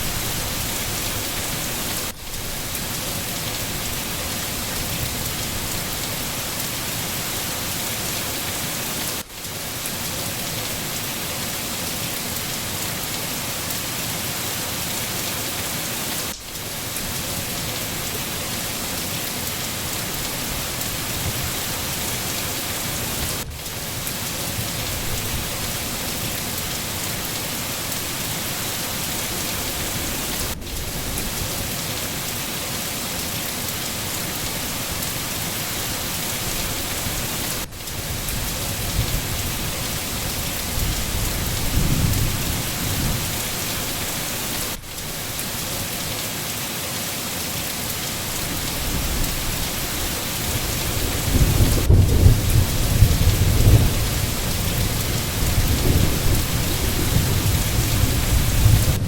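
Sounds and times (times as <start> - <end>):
dense rain falling: 0.0 - 59.0.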